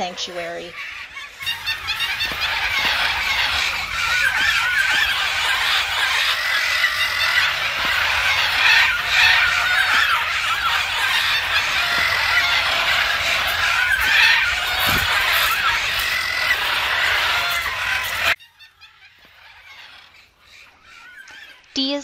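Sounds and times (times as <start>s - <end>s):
parrots squawking and screeching: 0.0s - 21.8s.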